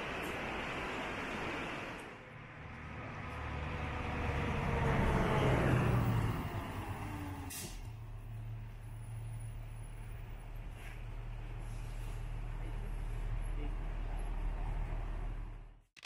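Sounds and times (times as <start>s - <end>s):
motor vehicle passing by: 2.2s - 15.7s.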